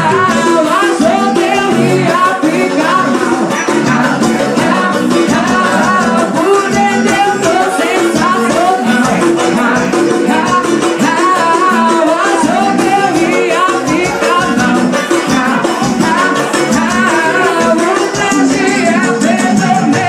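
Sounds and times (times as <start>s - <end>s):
fast rattling percussion: 0.0s - 20.0s
live band playing: 0.0s - 20.0s
woman singing: 0.0s - 20.0s.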